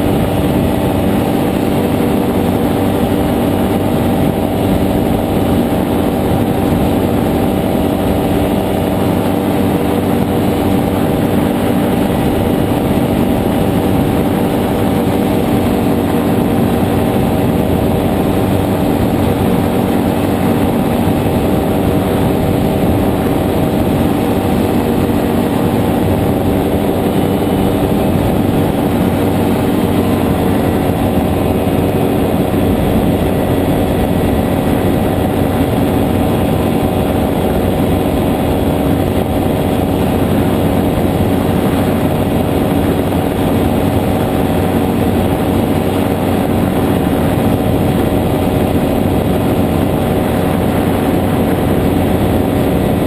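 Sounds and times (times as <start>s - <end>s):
aircraft engine droning: 0.0s - 53.0s.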